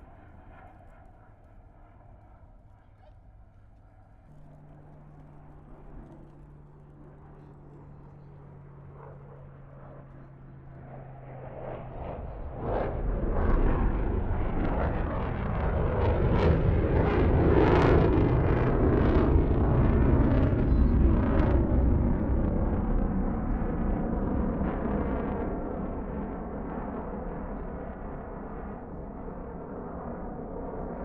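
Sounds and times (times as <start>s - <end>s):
crackling jet roar: 4.0s - 31.0s.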